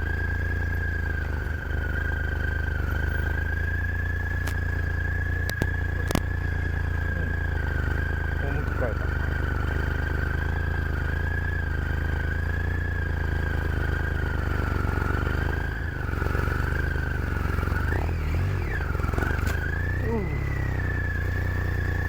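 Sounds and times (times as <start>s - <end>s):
high steady whine: 0.0s - 22.0s
motorcycle engine running: 0.0s - 22.0s.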